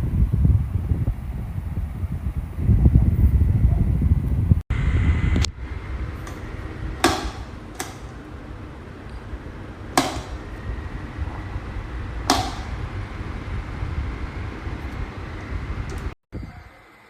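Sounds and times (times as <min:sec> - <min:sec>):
table fan rushing air: 0:00.0 - 0:16.7.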